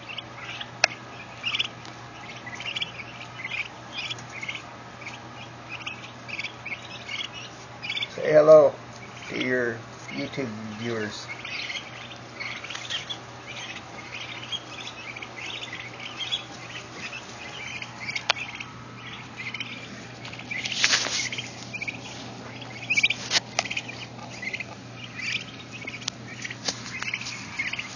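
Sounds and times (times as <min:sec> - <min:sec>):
turkey poults peeping: 0:00.0 - 0:27.9.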